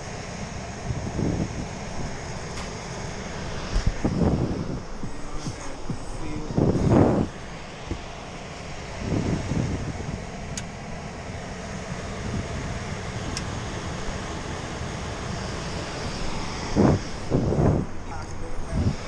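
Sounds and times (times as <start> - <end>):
hvac unit rumbling: 0.0 - 19.0.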